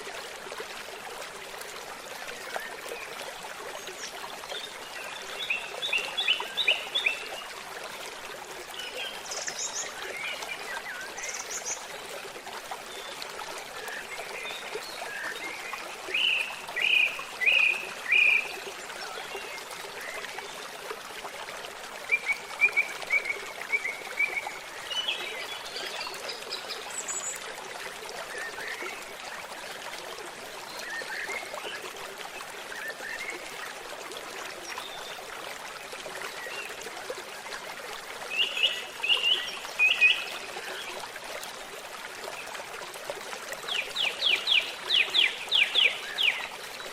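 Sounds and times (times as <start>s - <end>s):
stream babbling: 0.0s - 46.9s.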